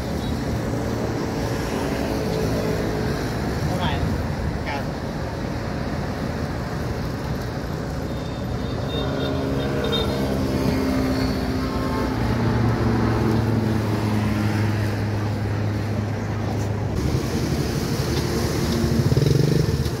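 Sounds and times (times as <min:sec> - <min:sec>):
road traffic: 0:00.0 - 0:20.0
vehicle engine humming: 0:00.0 - 0:20.0.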